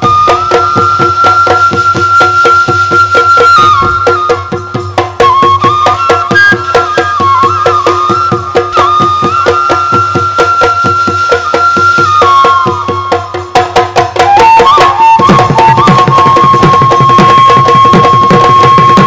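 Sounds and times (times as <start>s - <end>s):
bamboo flute melody: 0.0s - 19.0s
drums beating a steady rhythm: 0.0s - 19.0s.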